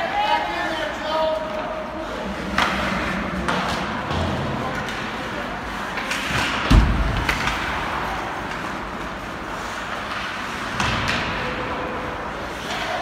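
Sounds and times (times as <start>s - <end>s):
noisy arena background: 0.0s - 13.0s.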